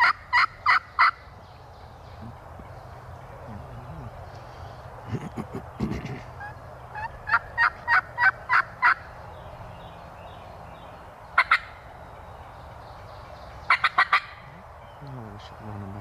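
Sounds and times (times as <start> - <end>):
wild turkeys calling: 0.0 - 15.6.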